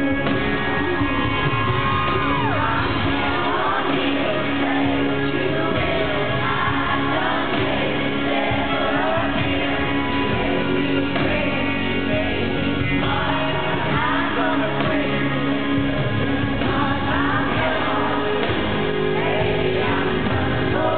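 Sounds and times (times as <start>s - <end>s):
live country band playing: 0.0s - 20.9s
women singing in harmony: 1.1s - 20.9s.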